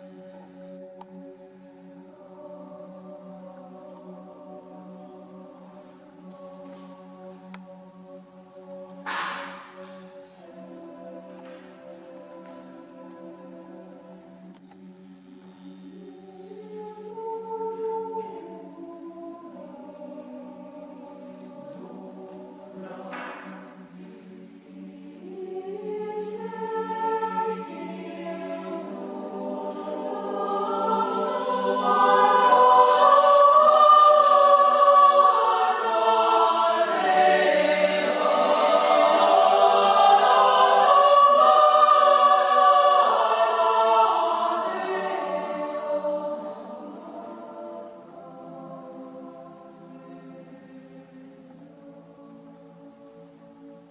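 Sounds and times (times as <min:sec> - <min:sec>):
choir singing a cappella: 0:00.0 - 0:53.9.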